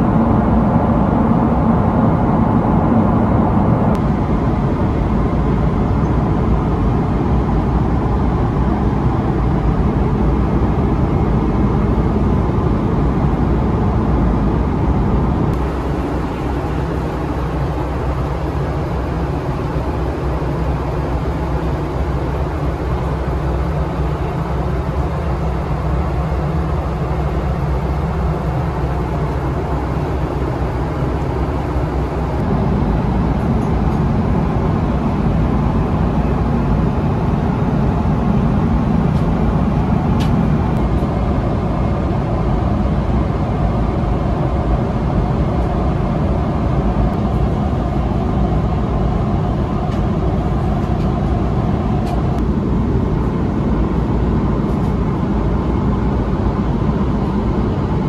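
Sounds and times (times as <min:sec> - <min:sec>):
low engine drone: 0:00.0 - 0:58.0
rush of airflow: 0:00.0 - 0:58.0.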